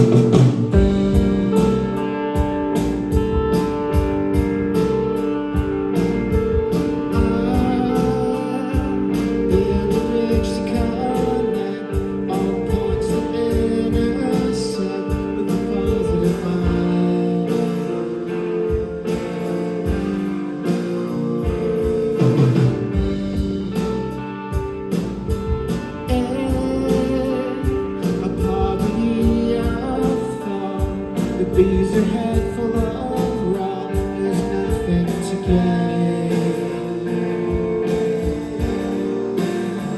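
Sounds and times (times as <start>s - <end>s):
live band playing: 0.0s - 39.9s
steady drum beat: 0.0s - 39.9s.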